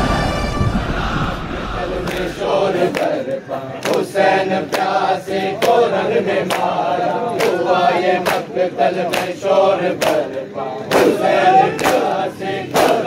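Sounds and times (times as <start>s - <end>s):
men chanting in unison: 0.9s - 13.0s.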